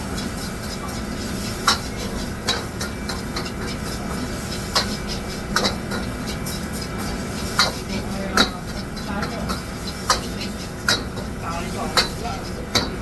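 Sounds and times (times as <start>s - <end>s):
steady background hum: 0.0s - 13.0s
utensils clinking on dishes: 0.0s - 13.0s.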